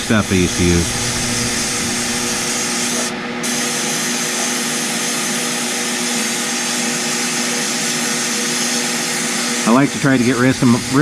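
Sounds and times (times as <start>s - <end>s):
low machine hum: 0.0s - 11.0s
sandblaster hissing: 0.0s - 11.0s.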